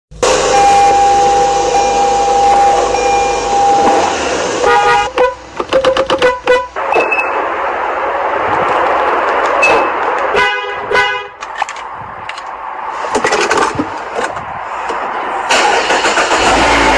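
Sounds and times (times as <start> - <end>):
car horns honking: 0.1 - 13.8, 14.8 - 16.9.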